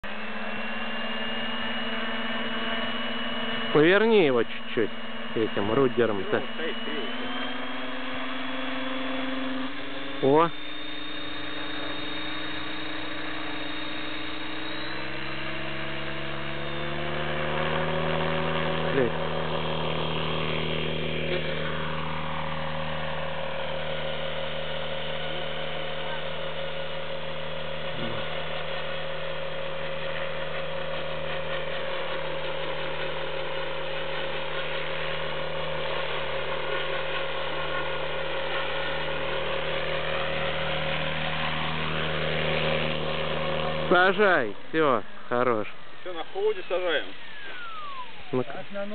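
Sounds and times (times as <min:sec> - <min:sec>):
rc helicopter rotors whirring: 0:00.0 - 0:48.9.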